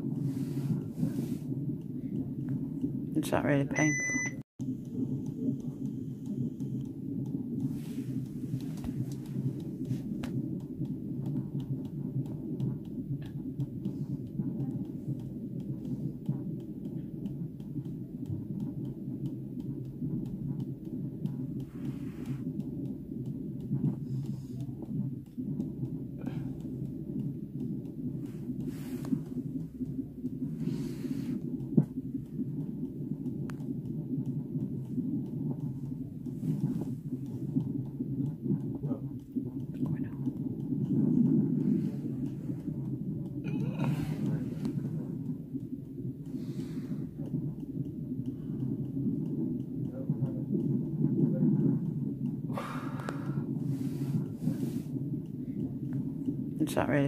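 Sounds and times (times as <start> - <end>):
fetal heartbeat through loudspeaker: 0.0 - 57.0.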